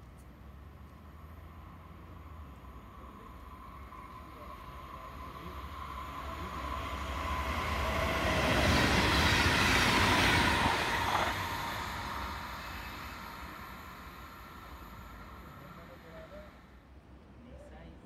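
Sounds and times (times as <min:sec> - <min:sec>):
electric train passing: 0:00.4 - 0:17.4.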